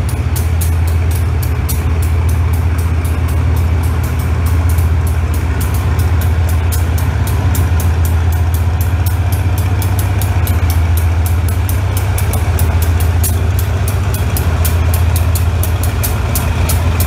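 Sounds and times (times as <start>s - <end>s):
locomotive engine hum: 0.0s - 17.0s.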